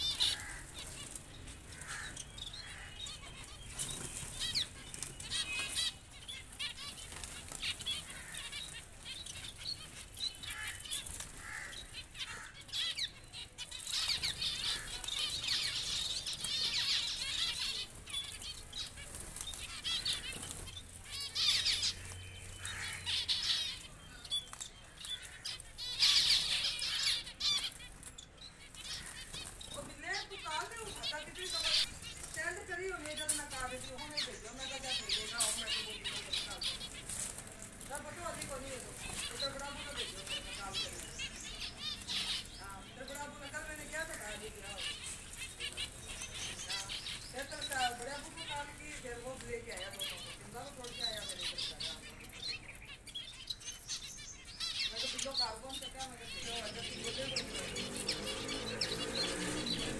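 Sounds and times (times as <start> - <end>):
wings fluttering: 0.0 - 2.1, 2.7 - 52.2
finches chirping: 0.0 - 59.9.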